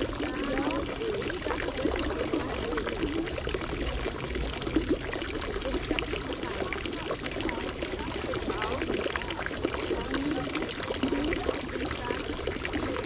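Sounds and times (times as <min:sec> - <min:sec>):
faint voices: 0:00.0 - 0:13.0
water running and splashing: 0:00.0 - 0:13.0.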